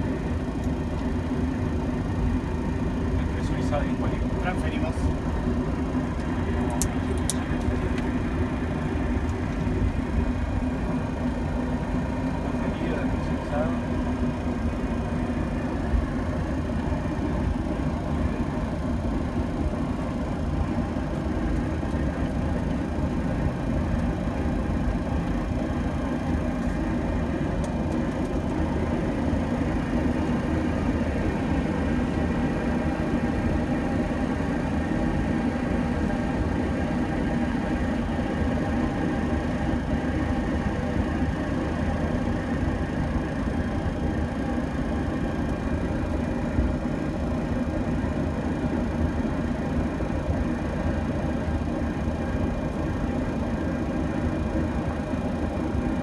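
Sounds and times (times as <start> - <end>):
cockpit air conditioning and fans: 0.0 - 56.0
jet engines idling: 0.0 - 56.0.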